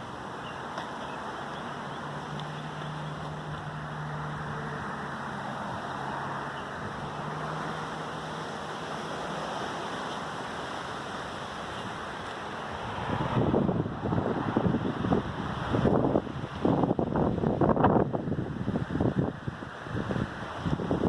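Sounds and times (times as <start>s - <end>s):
wind-like hiss: 0.0s - 21.0s.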